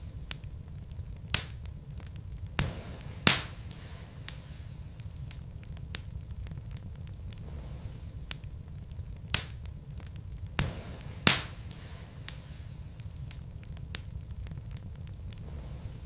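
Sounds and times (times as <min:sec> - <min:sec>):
low rumble of fire: 0:00.0 - 0:16.0
wood fire crackling and popping: 0:00.0 - 0:16.0.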